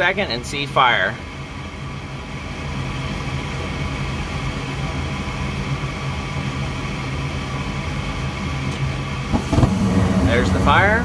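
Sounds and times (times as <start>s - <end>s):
furnace fan humming: 0.0s - 11.0s.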